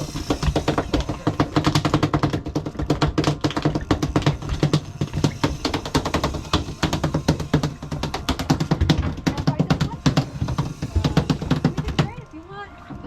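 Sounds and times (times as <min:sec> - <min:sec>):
fish tail drumming on deck: 0:00.0 - 0:12.3
boat engine humming: 0:00.0 - 0:13.0.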